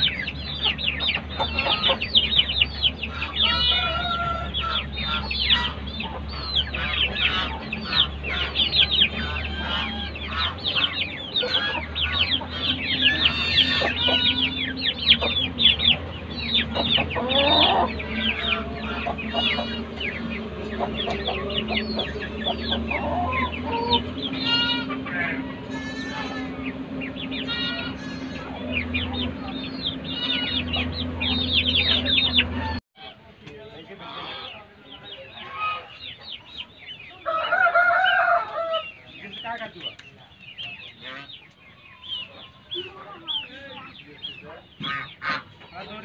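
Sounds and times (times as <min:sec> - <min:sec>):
chickens calling and clucking: 0:00.0 - 0:46.0.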